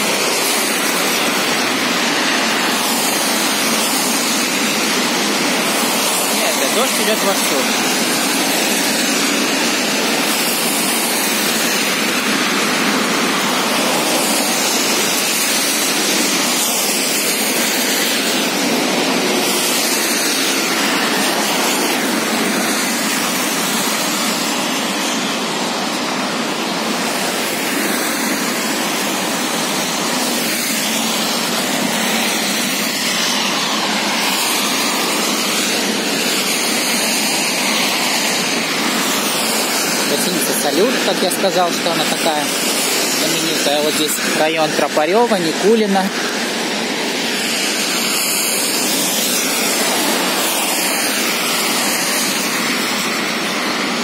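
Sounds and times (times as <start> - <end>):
car tyres swishing on wet road: 0.0 - 54.0
heavy rain hissing: 0.0 - 54.0.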